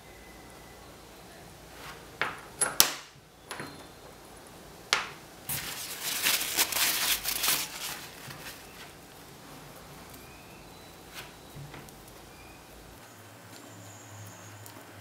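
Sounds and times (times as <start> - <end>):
crackly clicking and rustling: 2.3 - 15.0.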